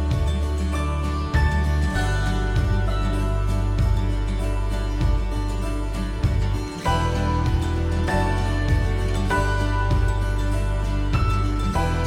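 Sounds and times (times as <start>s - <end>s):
instrumental music over bass: 0.0s - 12.0s.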